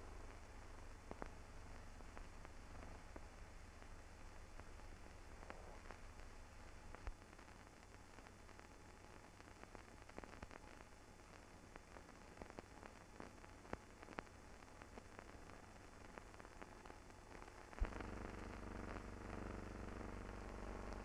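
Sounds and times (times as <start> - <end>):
film surface hiss and crackles: 0.0 - 21.0
steady low hum: 0.0 - 21.0.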